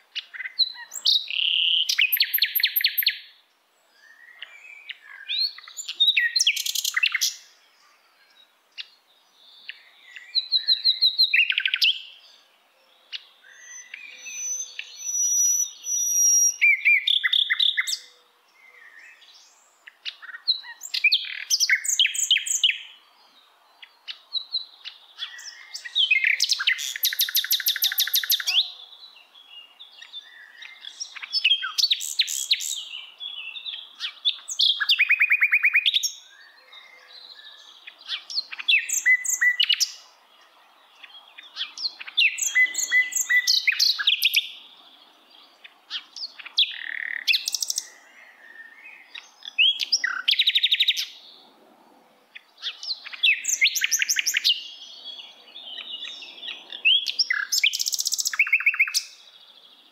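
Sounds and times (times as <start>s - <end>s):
songbirds chirping and whistling: 0.0s - 59.9s.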